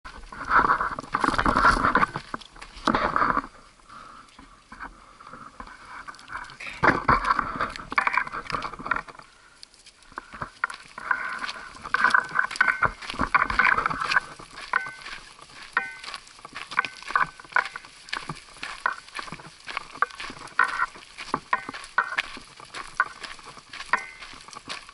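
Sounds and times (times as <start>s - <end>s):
footsteps on rocky dirt trail: 0.1s - 24.9s.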